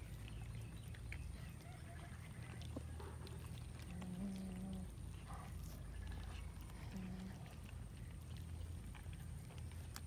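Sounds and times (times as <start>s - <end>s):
cats chewing and tearing meat: 0.0s - 10.0s
small wet clicks: 0.0s - 10.0s.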